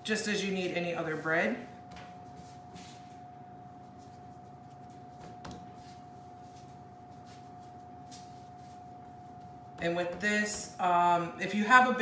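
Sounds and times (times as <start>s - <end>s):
dough being kneaded by hand: 0.0s - 12.0s
faint steady whine: 0.0s - 12.0s.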